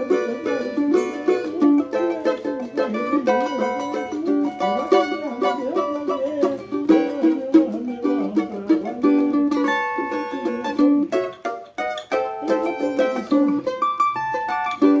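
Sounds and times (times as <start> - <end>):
plucked small guitar melody: 0.0 - 15.0.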